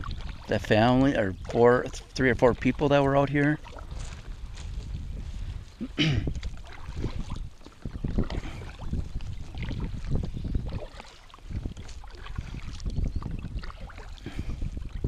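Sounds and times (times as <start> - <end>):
water sloshing against hull: 0.0 - 15.0
wind on microphone: 0.0 - 15.0.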